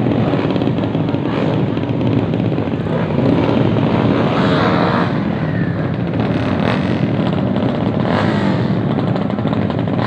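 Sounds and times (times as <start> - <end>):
motorcycle engines running loudly: 0.0 - 10.0.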